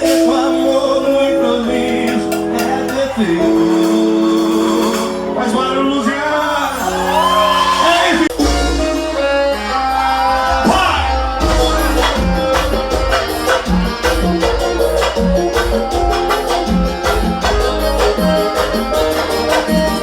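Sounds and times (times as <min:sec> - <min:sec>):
loud music with heavy bass: 0:00.0 - 0:05.8, 0:06.6 - 0:20.0.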